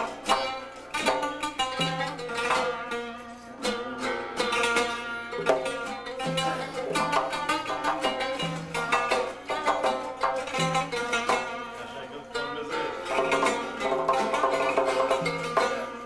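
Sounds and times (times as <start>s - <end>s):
plucked lute melody: 0.0s - 16.0s.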